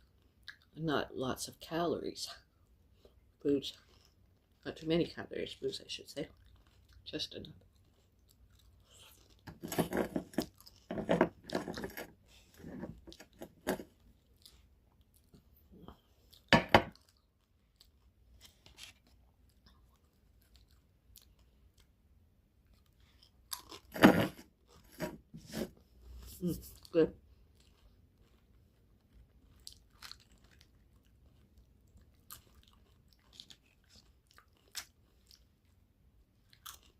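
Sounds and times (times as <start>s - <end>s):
person chewing and crunching food: 0.0s - 0.8s, 2.4s - 36.9s.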